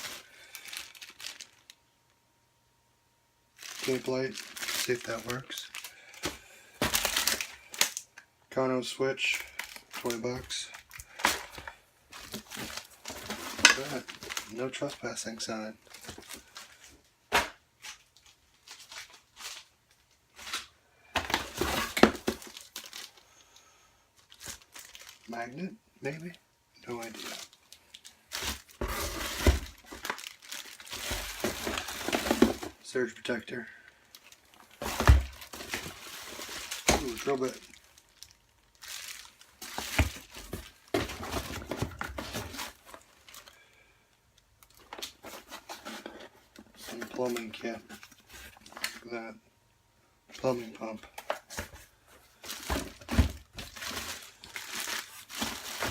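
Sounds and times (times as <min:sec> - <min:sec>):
plastic packaging crinkling: 0:00.0 - 0:01.8, 0:03.5 - 0:08.2, 0:09.2 - 0:23.5, 0:24.2 - 0:32.8, 0:33.8 - 0:43.8, 0:44.4 - 0:49.1, 0:50.5 - 0:55.9.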